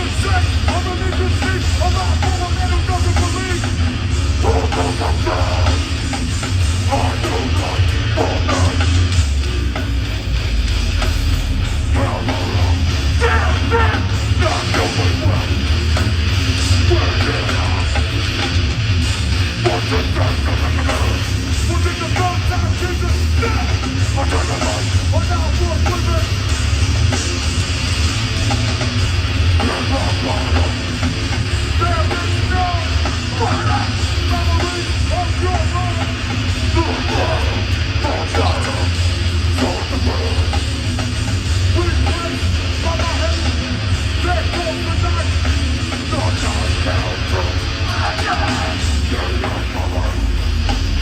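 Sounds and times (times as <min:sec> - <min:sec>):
live punk band playing: 0:00.0 - 0:51.0.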